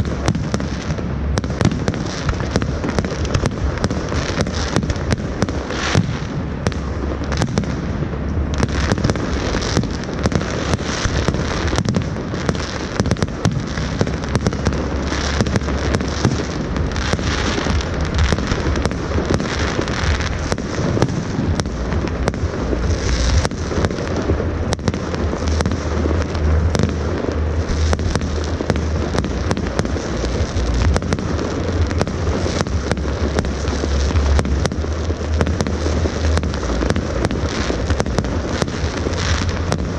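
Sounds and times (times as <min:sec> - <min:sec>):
fireworks bangs and crackles: 0:00.0 - 0:39.9
low rumble: 0:00.0 - 0:39.9.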